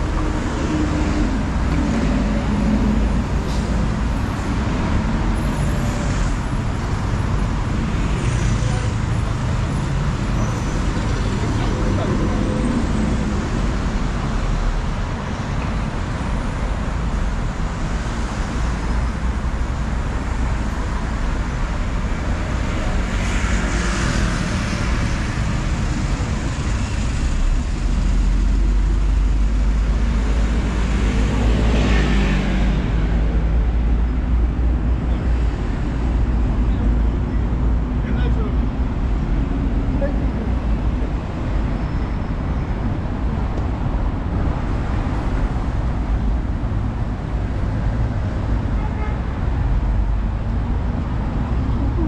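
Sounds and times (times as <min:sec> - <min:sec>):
road traffic rumble: 0:00.0 - 0:52.0
vehicles passing close: 0:00.0 - 0:52.0.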